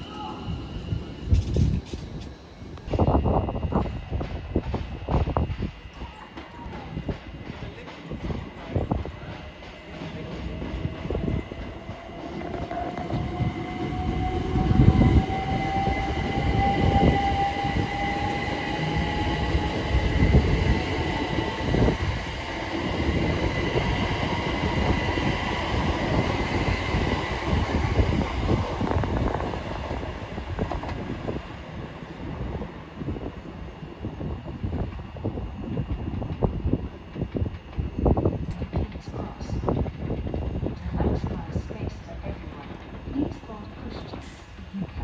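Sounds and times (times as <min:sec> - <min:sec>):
train wheels rumbling: 0:00.0 - 0:45.0.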